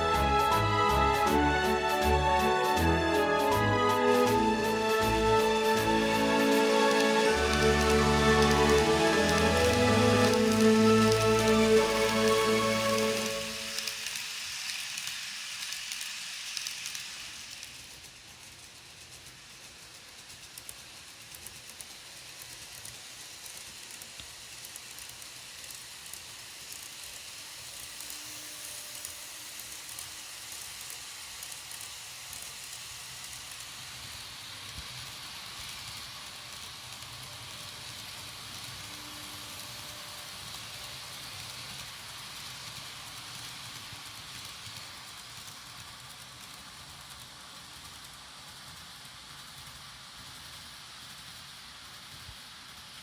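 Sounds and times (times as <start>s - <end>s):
model train rolling on track: 0.0s - 53.0s.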